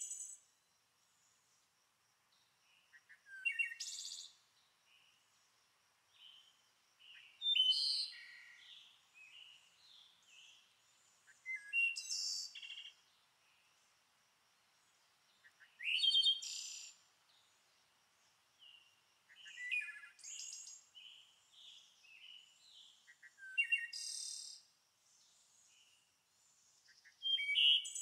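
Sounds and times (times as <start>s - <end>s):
faint birds chirping and singing: 0.0s - 28.0s.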